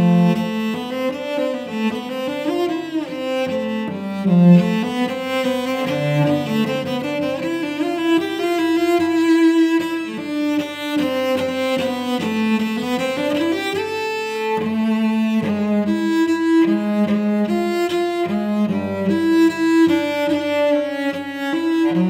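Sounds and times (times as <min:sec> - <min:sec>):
cello played with a bow: 0:00.0 - 0:22.0.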